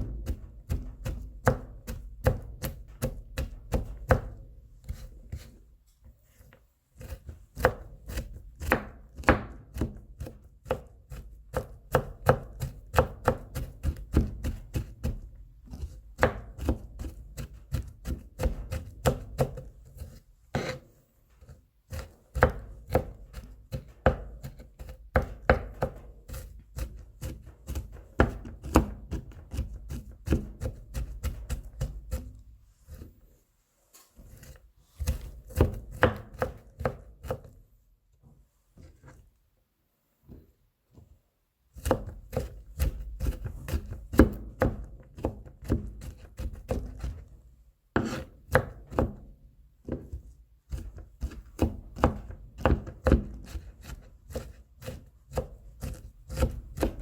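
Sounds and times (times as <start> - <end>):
knife chopping on cutting board: 0.0 - 5.5, 6.4 - 20.9, 21.9 - 33.1, 34.3 - 37.6, 41.8 - 47.2, 48.0 - 57.0.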